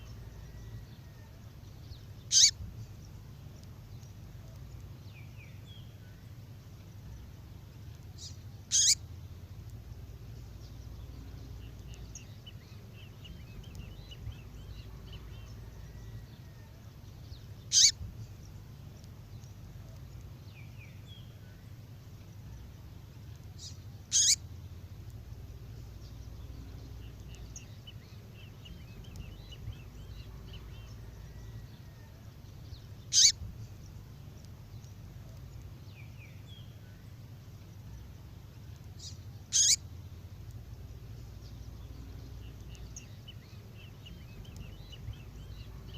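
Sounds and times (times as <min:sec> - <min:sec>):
songbird high-pitched calls: 0:00.0 - 0:06.4, 0:08.1 - 0:21.6, 0:22.4 - 0:37.1, 0:37.8 - 0:45.9
faint bird twittering: 0:00.0 - 0:45.9.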